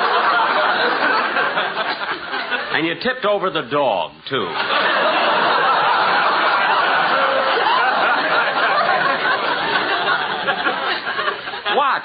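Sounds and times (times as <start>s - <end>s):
audience laughing: 0.0s - 2.8s, 4.5s - 12.0s.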